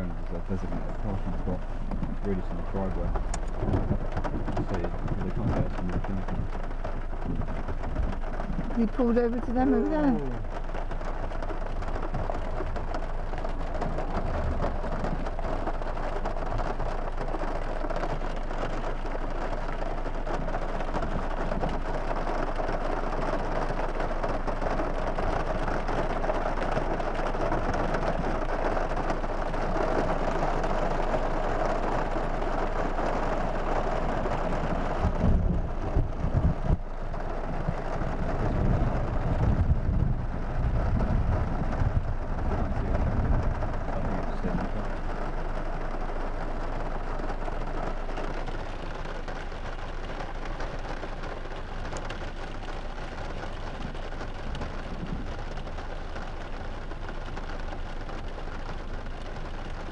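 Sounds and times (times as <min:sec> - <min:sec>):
low rumbles and thumps: 0:00.0 - 0:59.9
rain on a car: 0:00.0 - 0:59.9.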